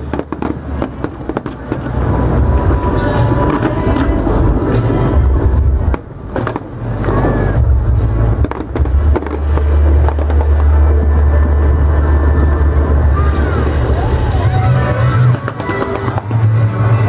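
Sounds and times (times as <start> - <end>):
fireworks bangs: 0.0 - 17.0
low rumble: 0.0 - 17.0.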